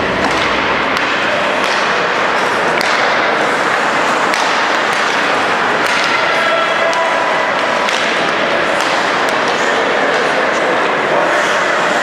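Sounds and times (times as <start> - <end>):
arena crowd noise: 0.0 - 12.0
hockey sticks striking puck: 0.0 - 12.0.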